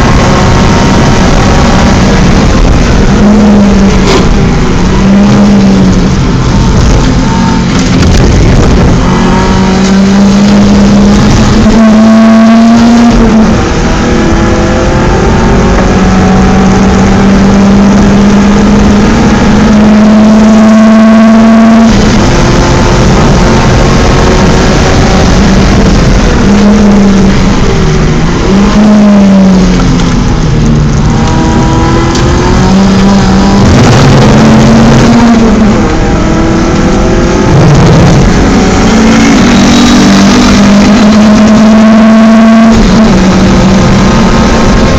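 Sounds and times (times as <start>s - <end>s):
car engine at high revs: 0.0s - 44.9s.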